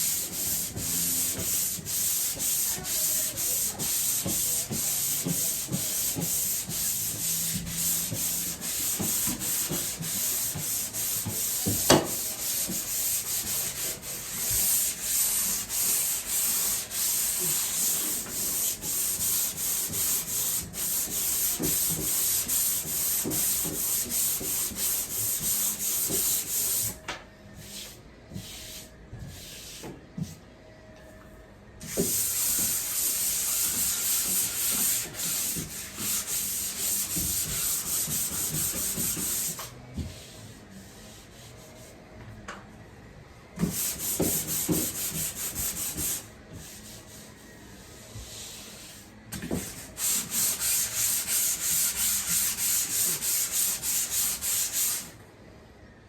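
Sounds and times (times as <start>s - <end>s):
sandpaper rubbing on drywall: 0.0s - 27.0s, 31.8s - 41.9s, 43.6s - 47.4s, 48.2s - 55.1s.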